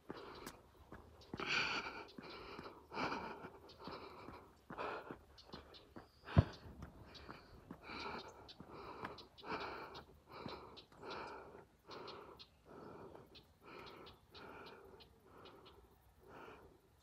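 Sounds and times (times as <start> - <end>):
heavy rhythmic panting: 0.0 - 15.8.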